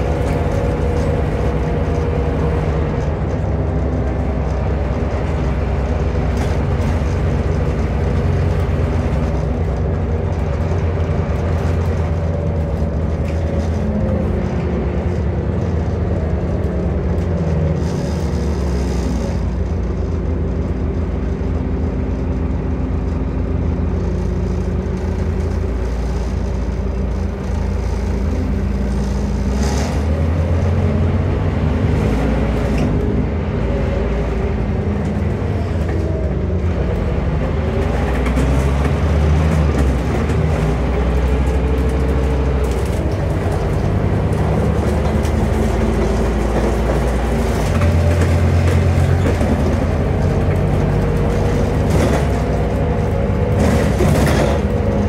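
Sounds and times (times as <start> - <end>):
bus diesel engine running: 0.0 - 55.0
road noise: 0.0 - 55.0.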